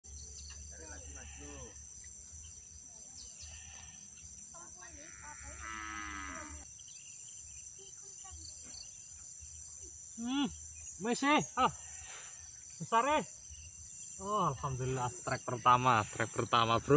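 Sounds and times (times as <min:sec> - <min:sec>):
drawn-out insect call: 0:00.0 - 0:16.9
high-pitched insect chorus: 0:00.0 - 0:16.9.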